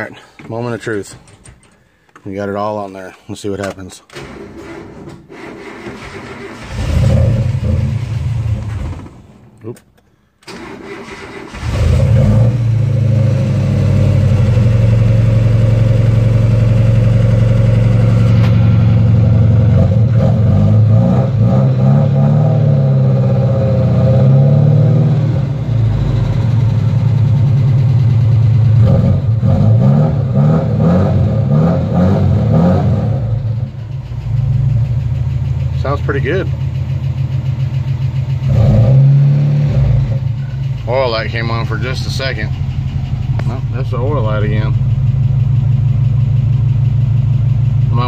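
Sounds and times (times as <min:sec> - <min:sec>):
truck engine starting and running: 0:00.0 - 0:48.0
engine revving: 0:05.3 - 0:09.2, 0:10.5 - 0:48.0.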